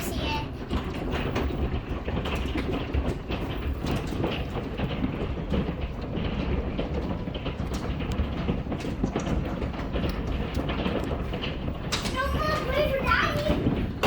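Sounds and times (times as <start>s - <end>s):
hail pelting down: 0.0s - 14.0s
low rumble: 0.0s - 14.0s.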